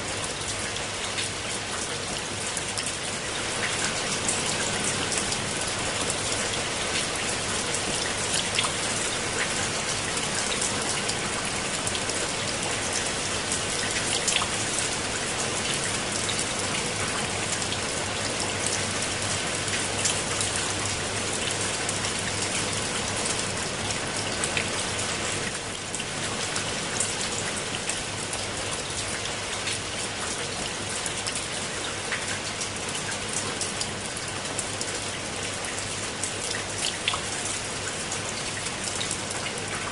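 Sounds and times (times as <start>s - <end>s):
rain on leaves and stone: 0.0s - 39.9s.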